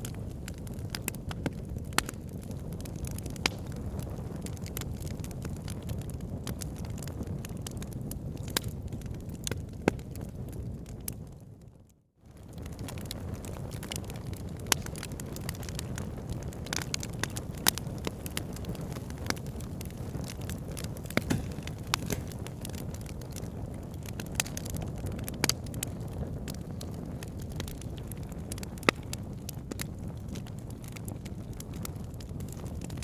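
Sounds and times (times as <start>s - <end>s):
wood fire crackling and popping: 0.0s - 11.4s, 12.3s - 33.0s.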